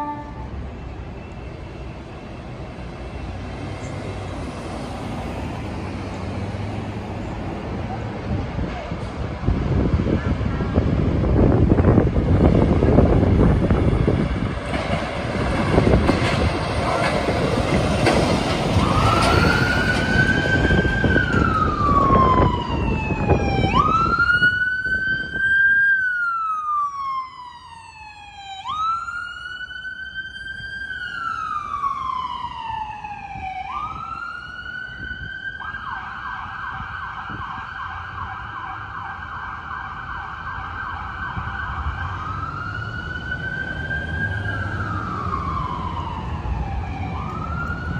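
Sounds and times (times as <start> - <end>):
vehicle and street rumble: 0.0 - 47.9.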